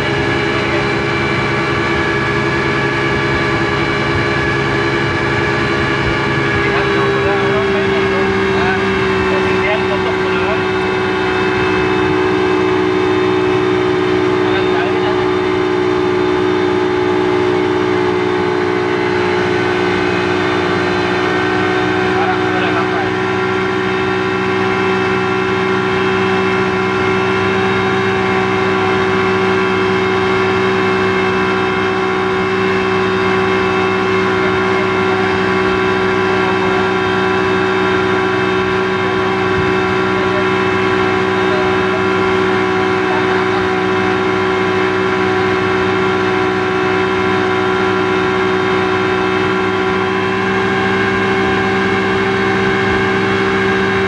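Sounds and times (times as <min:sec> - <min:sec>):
speedboat engine droning: 0:00.0 - 0:54.0.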